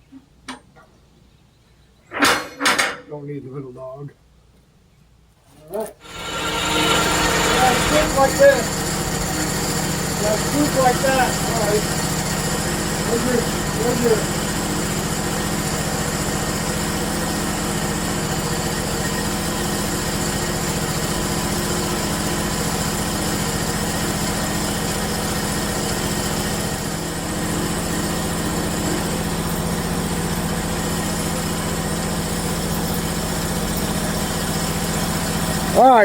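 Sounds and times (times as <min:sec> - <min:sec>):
engine idling: 0:06.0 - 0:36.0.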